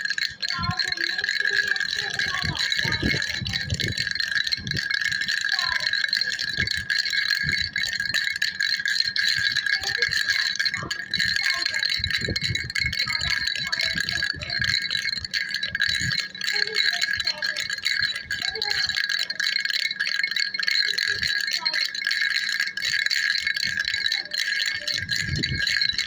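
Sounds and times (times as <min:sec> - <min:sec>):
baby rattle jingling: 0:00.0 - 0:26.0.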